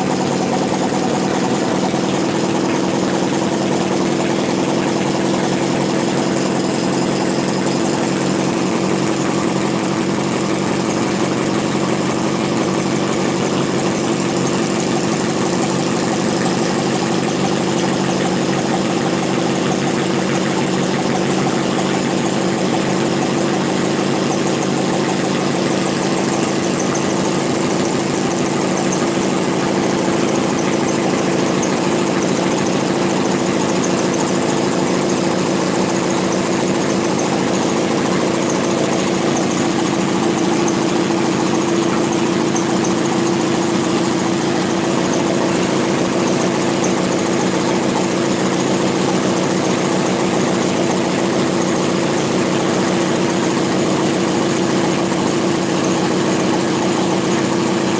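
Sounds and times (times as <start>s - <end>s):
model engine ticking: 0.0s - 57.9s.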